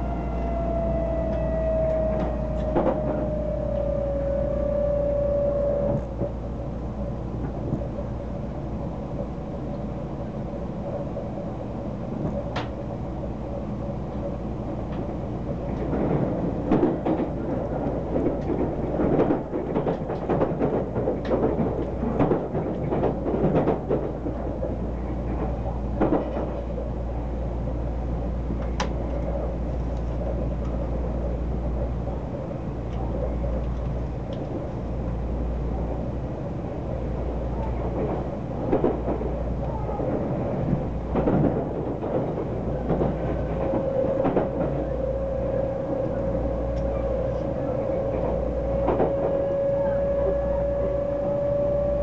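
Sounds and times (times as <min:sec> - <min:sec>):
train wheel and track rumble: 0:00.0 - 0:52.0.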